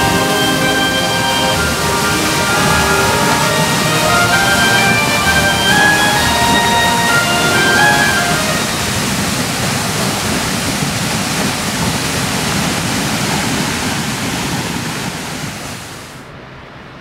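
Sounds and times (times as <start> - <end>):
waterfall roaring: 0.0 - 16.3.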